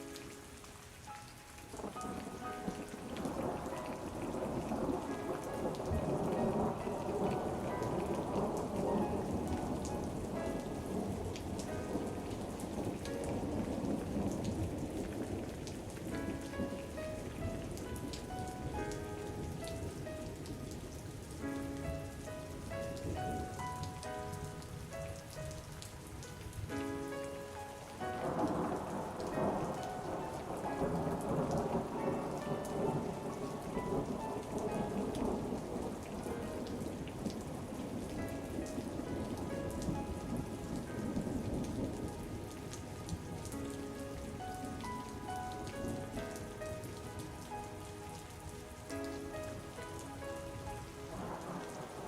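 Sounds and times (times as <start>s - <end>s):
soft melodic music: 0.0s - 52.0s
steady rainfall: 0.0s - 52.0s
rolling thunder: 1.7s - 23.8s, 28.2s - 48.8s.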